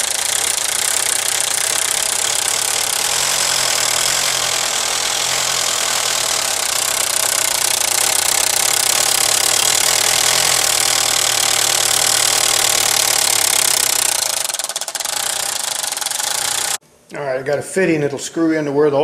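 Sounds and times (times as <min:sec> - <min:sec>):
car engine running: 0:00.0 - 0:16.8.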